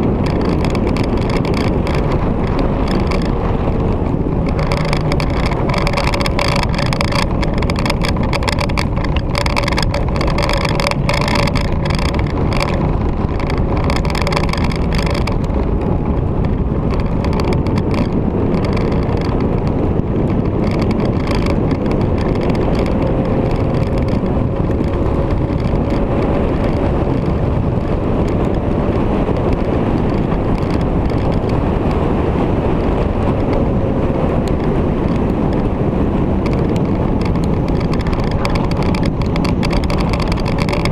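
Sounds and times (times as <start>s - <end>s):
motorcycle engine drone: 0.0s - 40.9s
wind rush on microphone: 0.0s - 40.9s.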